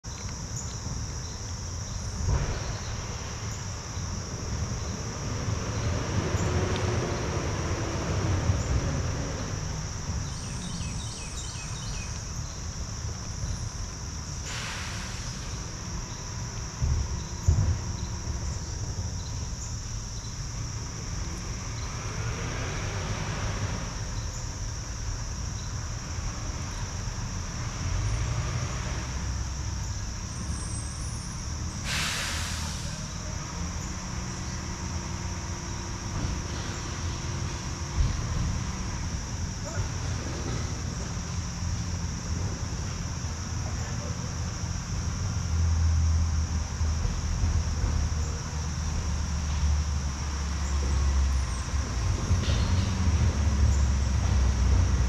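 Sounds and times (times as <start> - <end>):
high-pitched insect chorus: 0.0 - 55.0
low outdoor rumble: 0.1 - 55.0.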